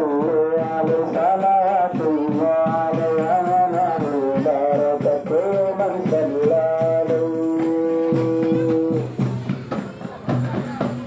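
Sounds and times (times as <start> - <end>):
devotional song with percussion: 0.0 - 11.0.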